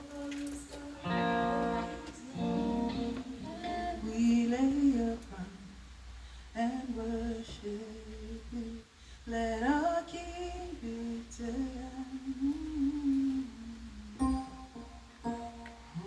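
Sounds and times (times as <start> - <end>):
person singing slow melody: 0.0 - 5.8, 6.6 - 16.0.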